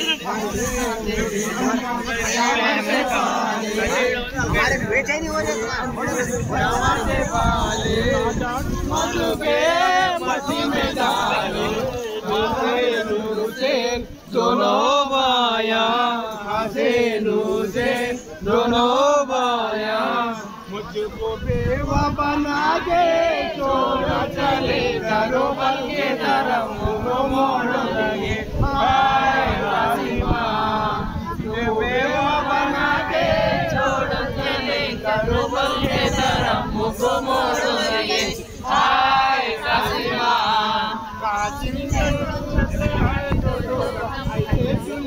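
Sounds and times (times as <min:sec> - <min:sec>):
group of voices chanting: 0:00.0 - 0:45.0.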